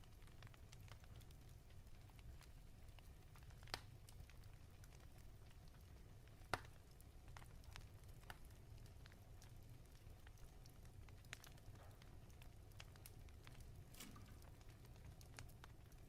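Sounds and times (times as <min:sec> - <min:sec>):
fire crackling: 0:00.0 - 0:16.0
fire snaps: 0:00.0 - 0:16.0.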